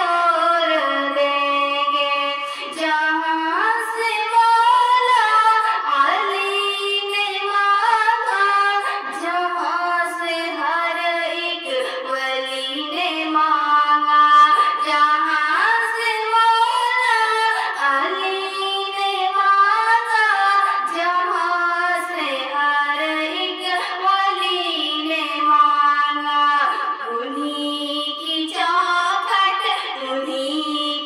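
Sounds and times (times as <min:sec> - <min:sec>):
person singing devotional song: 0:00.0 - 0:31.0.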